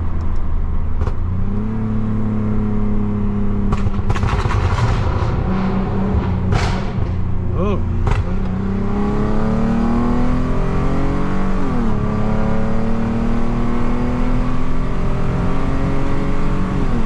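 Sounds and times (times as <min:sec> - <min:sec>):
car engine accelerating hard: 0:01.0 - 0:17.0.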